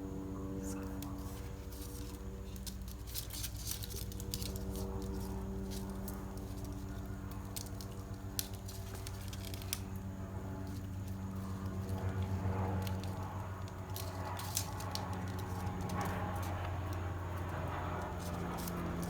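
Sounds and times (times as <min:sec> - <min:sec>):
steady low hum: 0:00.0 - 0:19.0
string rustling and clicking: 0:00.6 - 0:19.0.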